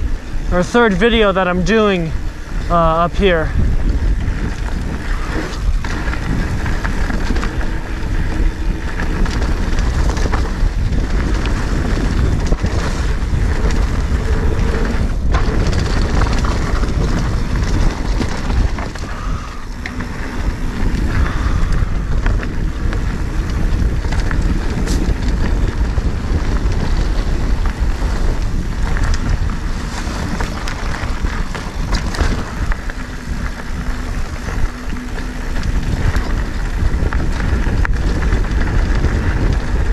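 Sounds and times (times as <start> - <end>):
bike rattling and knocking: 0.0 - 39.9
bike tyres rolling over dirt: 0.0 - 39.9
wind buffeting microphone: 0.0 - 39.9.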